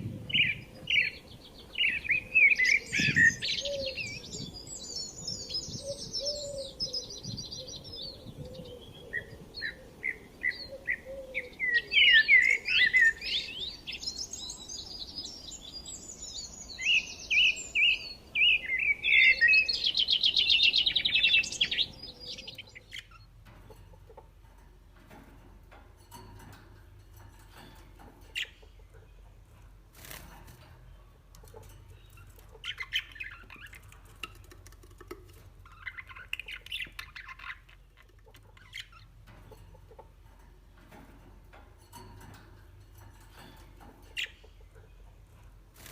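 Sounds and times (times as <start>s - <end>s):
small birds chirping and trilling: 0.0s - 45.9s.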